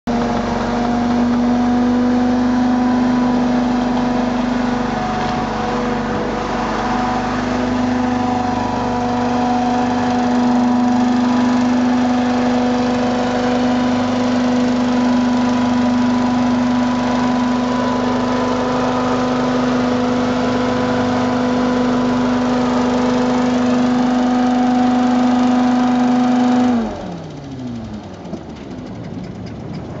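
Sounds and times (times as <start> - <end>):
hovercraft engine and fan humming: 0.1 - 30.0.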